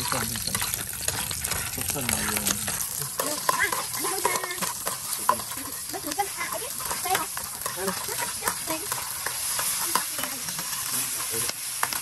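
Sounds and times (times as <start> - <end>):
garlic and chilies sizzling in oil: 0.0 - 12.0.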